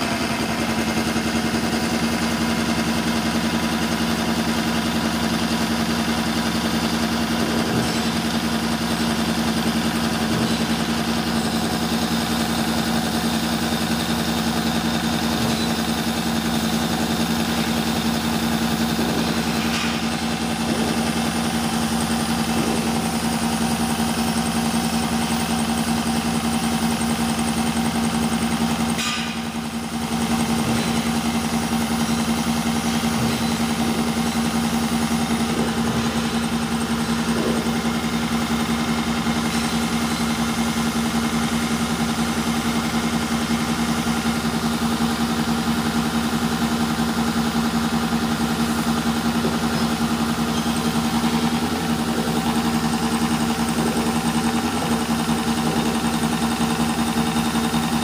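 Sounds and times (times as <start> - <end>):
beveling machine motor hum: 0.0 - 58.0.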